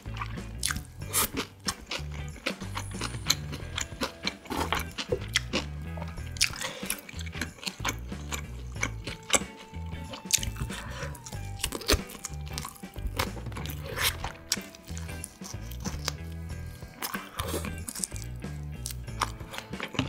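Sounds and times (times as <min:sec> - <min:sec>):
wet chewing and biting: 0:00.0 - 0:20.0.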